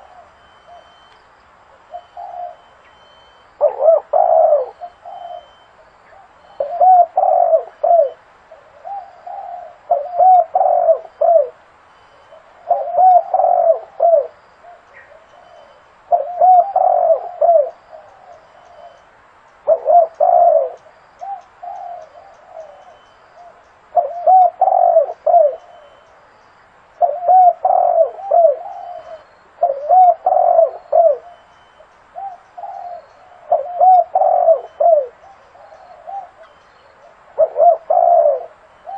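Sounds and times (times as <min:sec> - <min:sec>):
dove cooing: 0:00.0 - 0:01.1, 0:01.8 - 0:11.6, 0:12.2 - 0:19.0, 0:19.6 - 0:26.2, 0:27.0 - 0:38.9.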